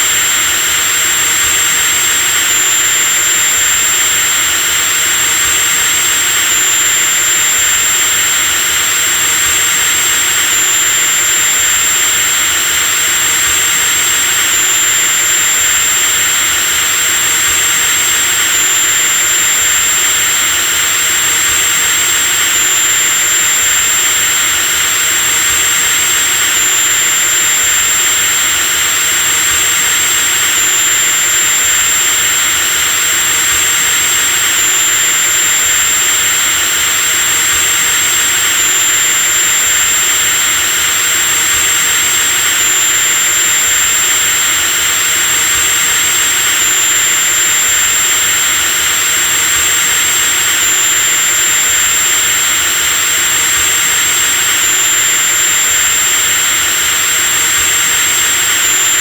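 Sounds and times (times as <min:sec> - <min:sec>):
electric drill running: 0:00.0 - 0:59.0.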